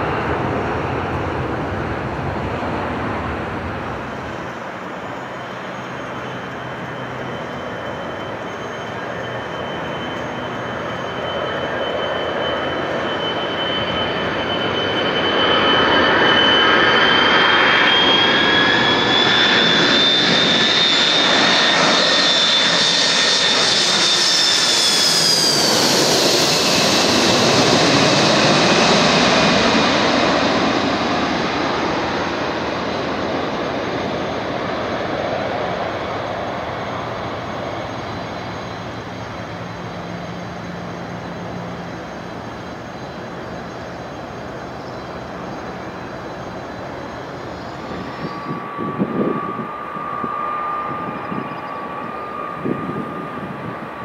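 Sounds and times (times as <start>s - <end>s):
jet engine whine: 0.0s - 54.0s
jet roar: 0.0s - 54.0s.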